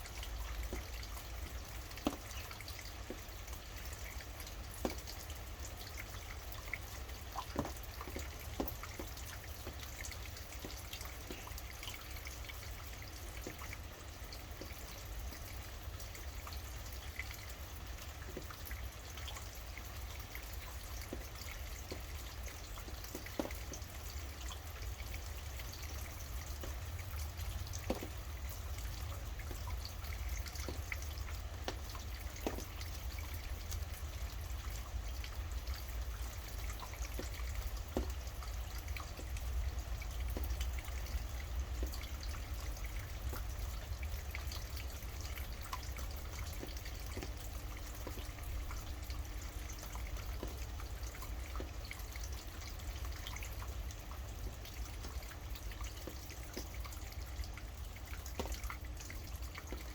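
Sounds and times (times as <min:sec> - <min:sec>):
large raindrops landing close: 0:00.0 - 0:59.9
rain falling: 0:00.0 - 0:59.9.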